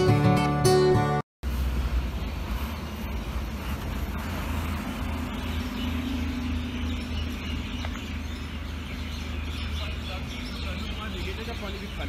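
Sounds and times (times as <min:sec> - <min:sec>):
car engine and road rumble: 0:01.4 - 0:12.0
faint engine hum: 0:01.5 - 0:12.0.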